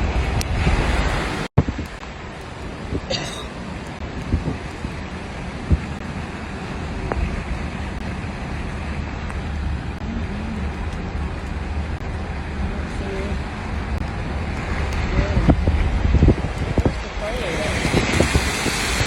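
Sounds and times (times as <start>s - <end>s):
deep rumble: 0.0s - 19.0s
floodwater rushing: 0.0s - 19.0s.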